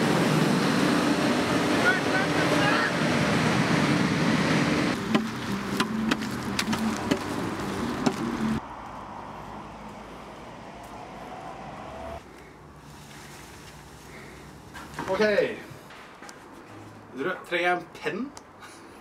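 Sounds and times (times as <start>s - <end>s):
car passing: 0.0s - 17.1s
street ambience: 0.0s - 19.0s.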